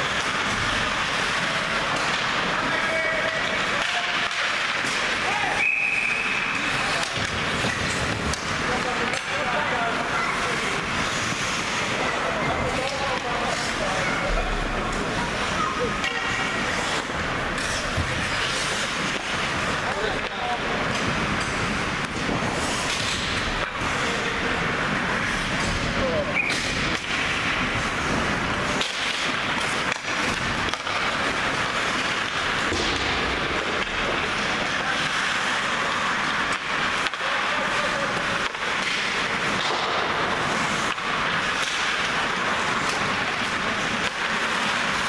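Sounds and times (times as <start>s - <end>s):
hockey sticks and puck clacking: 0.0s - 45.0s
skates scraping on ice: 0.0s - 45.0s.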